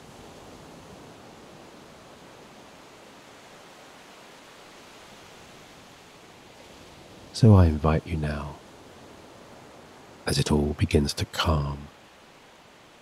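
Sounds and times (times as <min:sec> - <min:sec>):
gentle ocean waves: 0:00.0 - 0:13.0.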